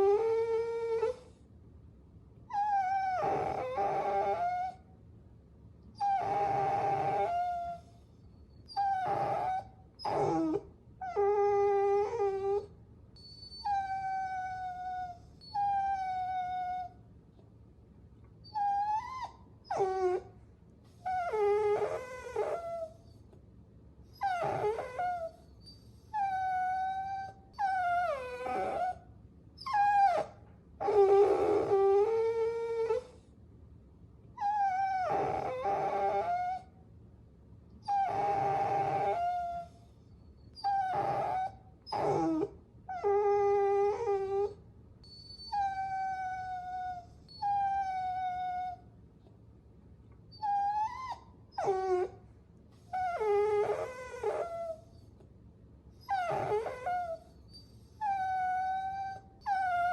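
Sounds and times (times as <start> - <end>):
puppy whining: 0.0 - 1.5, 2.5 - 4.9, 5.9 - 17.1, 18.3 - 23.4, 24.0 - 33.3, 34.3 - 36.8, 37.8 - 49.3, 50.1 - 55.3, 55.9 - 59.9.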